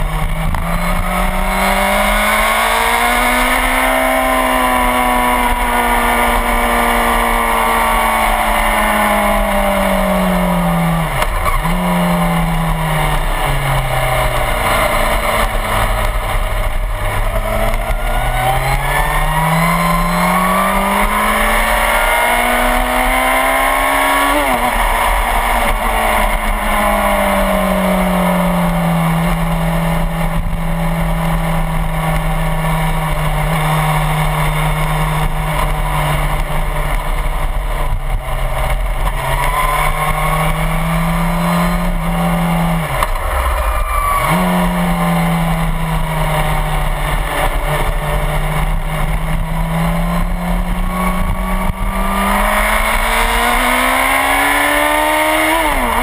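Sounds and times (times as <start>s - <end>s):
motorcycle engine at racing speed: 0.0s - 56.0s
wind rushing over microphone: 0.0s - 56.0s.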